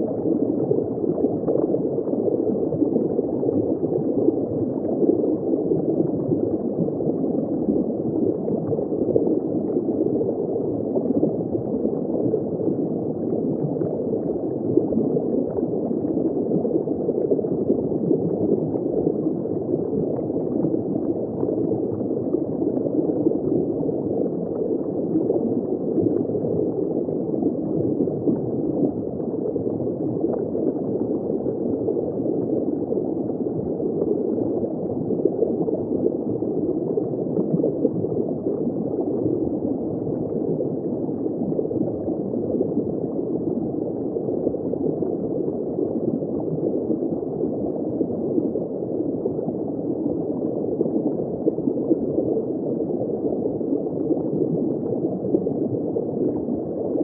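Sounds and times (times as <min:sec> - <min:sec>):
muffled underwater bubbling: 0:00.0 - 0:57.0.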